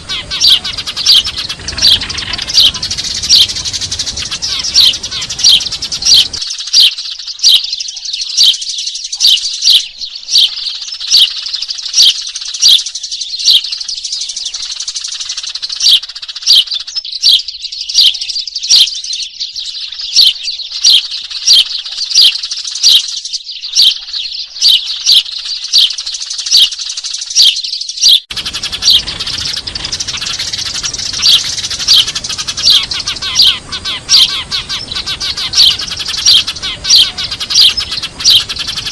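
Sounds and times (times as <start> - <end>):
loud sharp chirps: 0.0 - 13.8, 20.1 - 38.9
sparrows twittering: 0.0 - 38.9.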